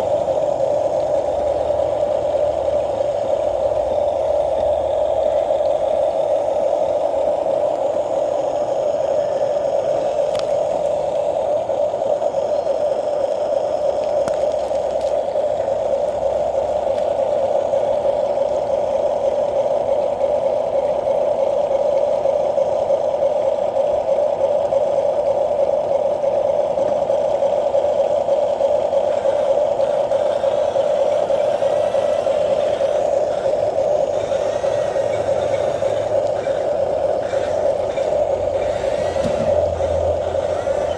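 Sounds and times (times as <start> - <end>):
small electric motor whine: 0.0 - 20.5, 28.1 - 40.9.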